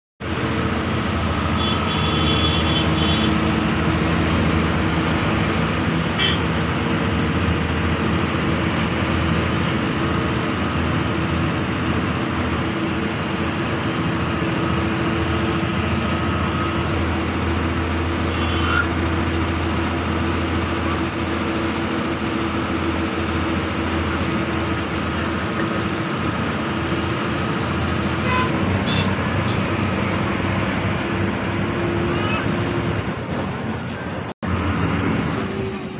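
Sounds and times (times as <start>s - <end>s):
road noise: 0.2s - 35.9s
vehicle engine drone: 0.2s - 35.9s.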